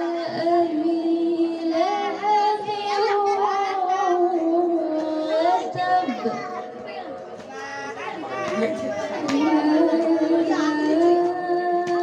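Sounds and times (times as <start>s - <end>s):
girl chanting melodic recitation: 0.0s - 12.0s.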